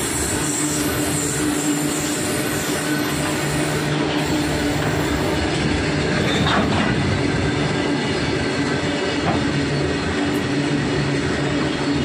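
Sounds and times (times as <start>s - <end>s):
steel wheels rolling on rail: 0.0s - 12.0s.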